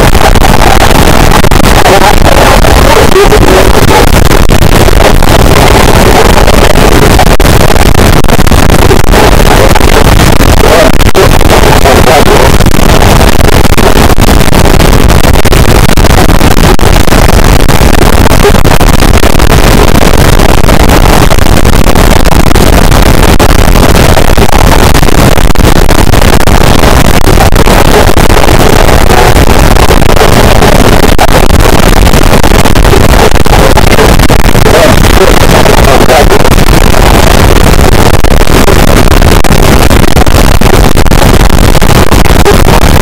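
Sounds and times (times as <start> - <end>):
distorted static noise wall: 0.0 - 43.0.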